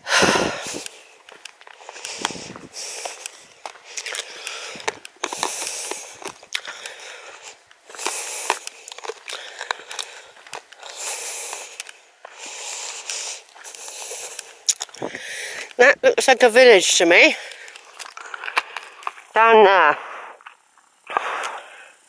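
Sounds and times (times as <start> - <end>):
person breathing: 0.0 - 15.8, 17.3 - 19.3, 19.9 - 22.0
footsteps on dry dirt: 0.0 - 20.9.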